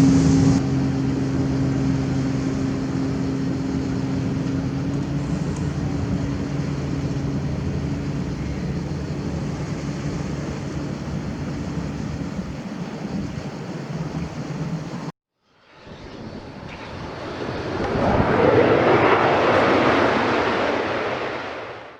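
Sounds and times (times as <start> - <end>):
aircraft engines roaring: 0.0 - 21.9.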